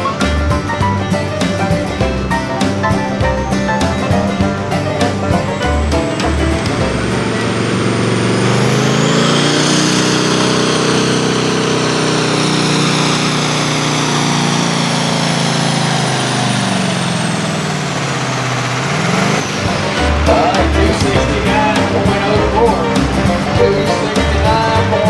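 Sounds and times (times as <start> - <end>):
tractor engine under full throttle: 0.0 - 25.0.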